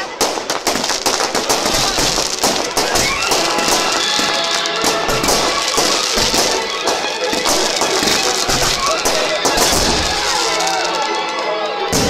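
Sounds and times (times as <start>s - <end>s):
firework bangs and crackles: 0.0s - 12.0s
loud music: 0.0s - 12.0s.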